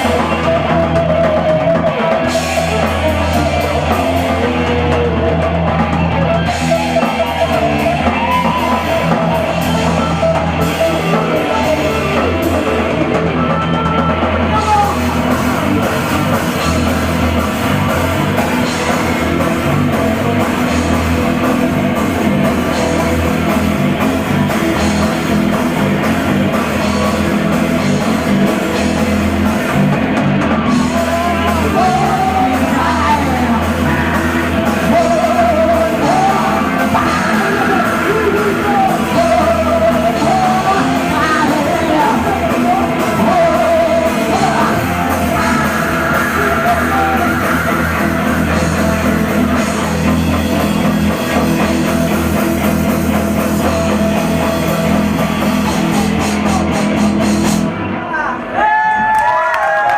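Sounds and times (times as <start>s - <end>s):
distorted guitars: 0.0s - 59.9s
drum kit: 0.0s - 59.9s.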